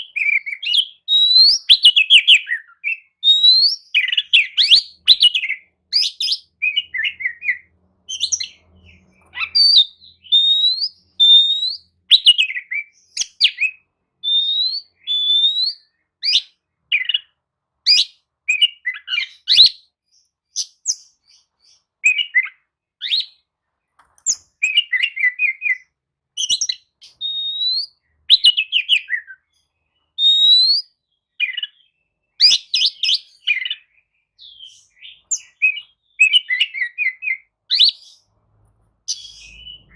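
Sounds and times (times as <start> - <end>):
bird singing varied phrases: 0.0 - 23.5, 24.1 - 38.3, 39.1 - 39.9.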